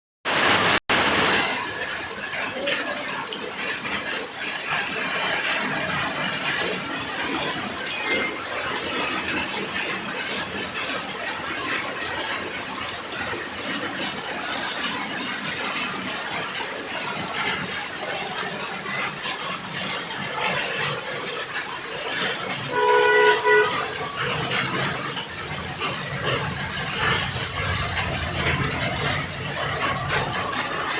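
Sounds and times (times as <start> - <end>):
heavy rain falling: 0.2 - 30.9
water overflowing onto street: 0.2 - 30.9.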